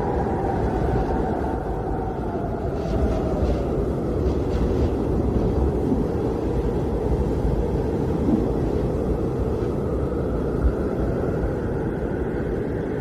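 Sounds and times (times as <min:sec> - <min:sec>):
blizzard wind rumbling: 0:00.0 - 0:13.0
faint wind whistling: 0:00.0 - 0:13.0.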